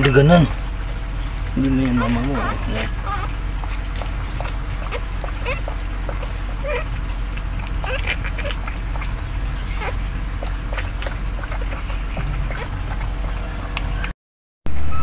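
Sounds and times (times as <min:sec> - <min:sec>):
newborn puppies squeaking: 0:00.0 - 0:13.6
steady low rumble: 0:00.0 - 0:14.1.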